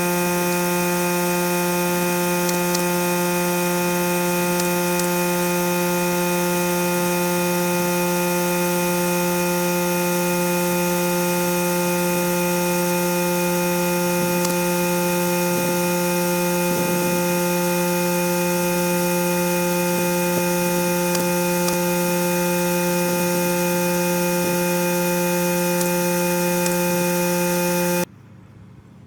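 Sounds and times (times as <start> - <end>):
steady machine hum: 0.0 - 28.1.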